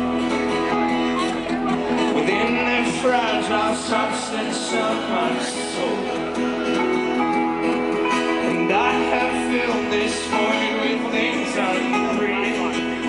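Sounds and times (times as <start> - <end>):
folk-rock band playing: 0.0 - 13.0
strummed acoustic guitar: 0.0 - 13.0.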